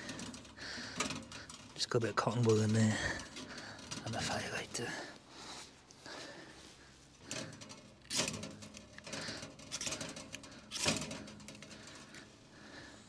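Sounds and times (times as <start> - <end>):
small clicks and rustles: 0.0 - 13.0.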